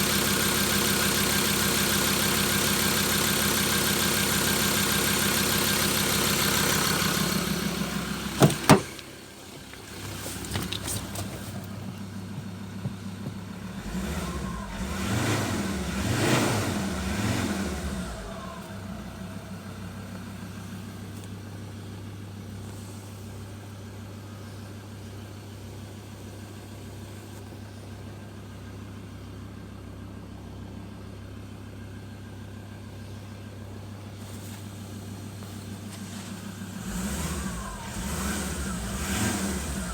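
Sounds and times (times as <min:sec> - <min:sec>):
diesel engine running: 0:00.0 - 0:24.7, 0:31.5 - 0:39.9.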